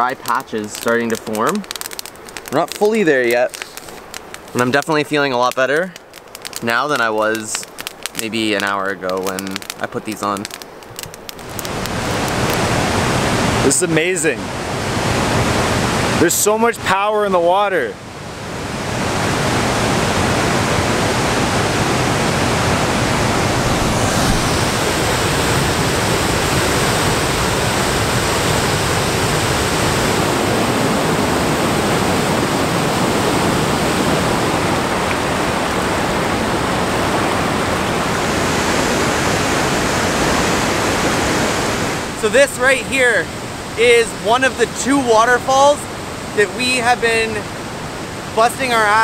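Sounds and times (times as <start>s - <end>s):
waterfall rushing: 0.0s - 10.7s, 11.4s - 49.0s.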